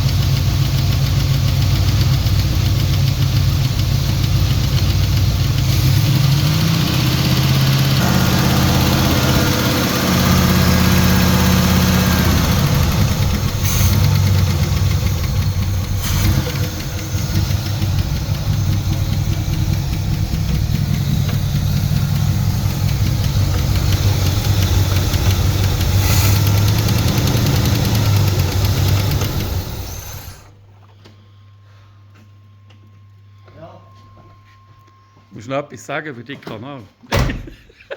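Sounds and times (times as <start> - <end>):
car engine running: 0.0 - 30.8.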